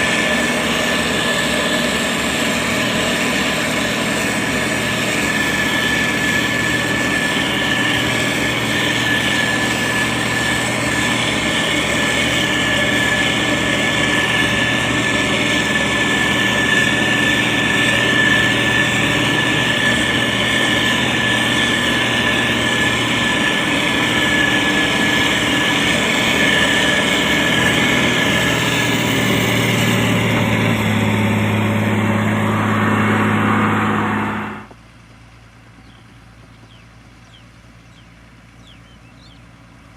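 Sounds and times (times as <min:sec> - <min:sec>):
constant high whine: 0:00.0 - 0:39.9
diesel engine running: 0:00.0 - 0:39.9.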